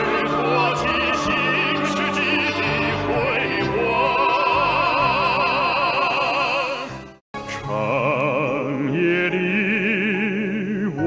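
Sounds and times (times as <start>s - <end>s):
man singing operatically: 0.0s - 11.0s
musical accompaniment: 0.0s - 11.0s.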